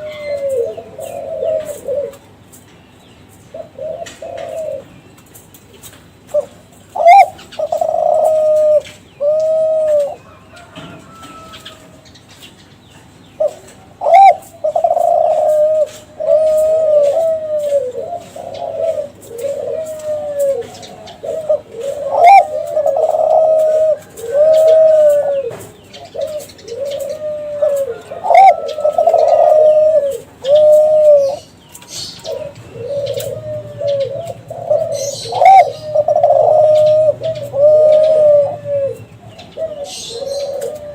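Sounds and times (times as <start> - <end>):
dove cooing: 0.0 - 2.6, 3.4 - 12.4, 13.4 - 40.9.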